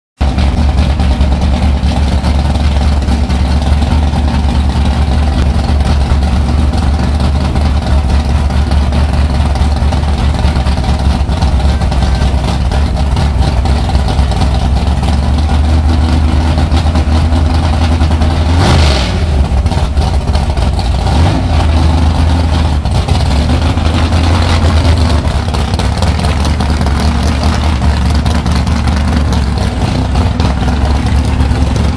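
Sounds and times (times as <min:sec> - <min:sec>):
car engine idling: 0:00.2 - 0:31.9.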